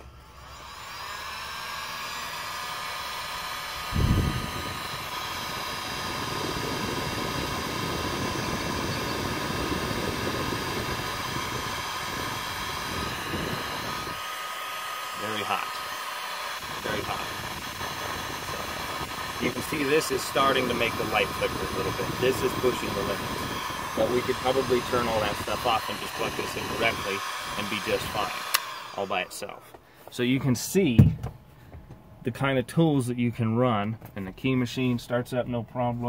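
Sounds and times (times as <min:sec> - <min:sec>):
heat gun fan whining: 0:00.0 - 0:36.0.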